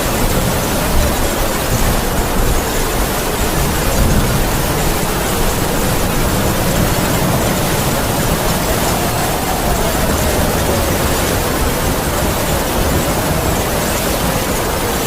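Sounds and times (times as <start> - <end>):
heavy rain downpour: 0.0 - 15.0
wind howling: 0.0 - 15.0.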